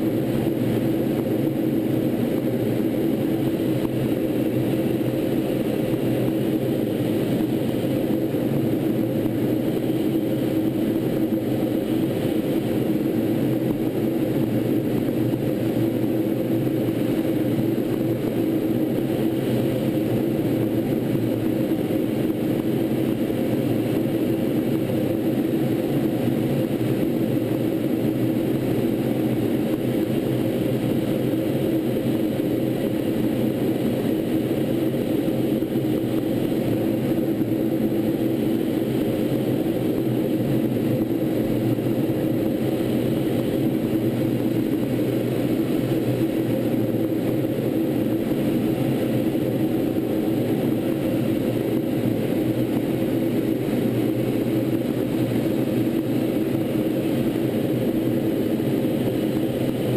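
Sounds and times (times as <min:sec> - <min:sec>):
jet engine and airflow roar: 0:00.0 - 0:59.9.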